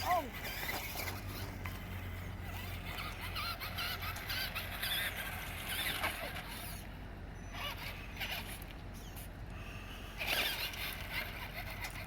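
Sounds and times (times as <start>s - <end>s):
toy car electric motor whining: 0.0s - 12.0s.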